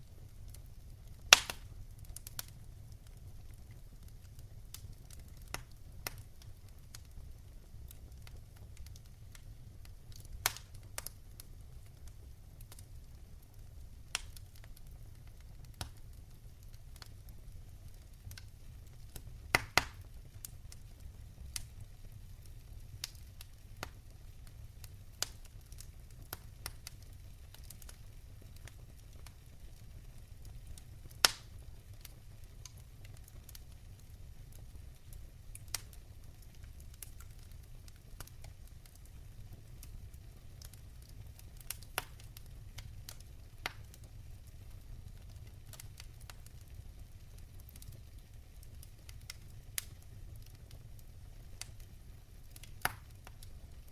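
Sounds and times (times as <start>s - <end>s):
fire crackling and popping: 0.0s - 53.9s.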